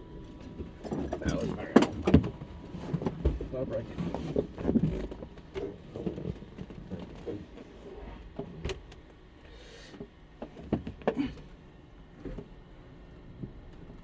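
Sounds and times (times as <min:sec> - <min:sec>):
low cabin rumble: 0:00.0 - 0:14.0.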